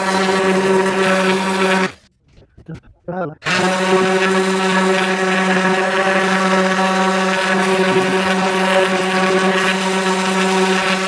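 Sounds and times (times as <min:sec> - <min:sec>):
orbital sander running: 0:00.0 - 0:02.0, 0:03.4 - 0:11.0.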